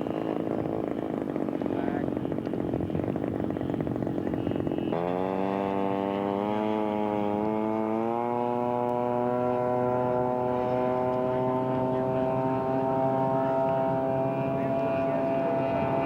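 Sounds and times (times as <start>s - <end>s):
model airplane engine running: 0.0s - 16.0s.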